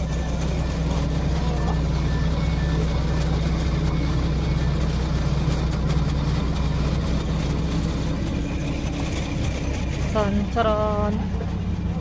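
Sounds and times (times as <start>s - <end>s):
train idling hum: 0.0s - 12.0s.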